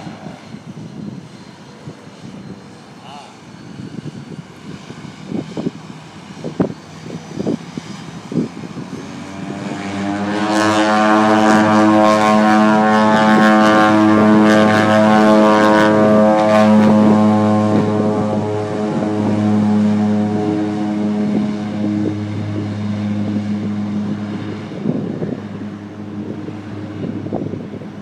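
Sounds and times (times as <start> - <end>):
propeller drone: 0.0 - 28.0.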